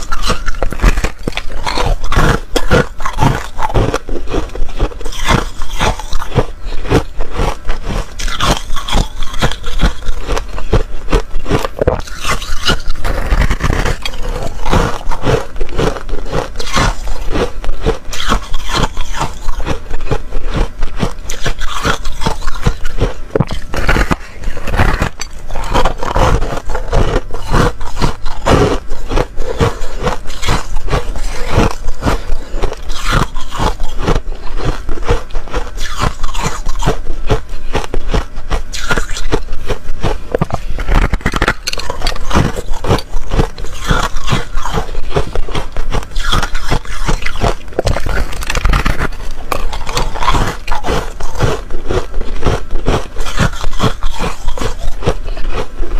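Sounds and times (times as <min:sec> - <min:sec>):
ice crunching while chewing: 0:00.0 - 0:55.9.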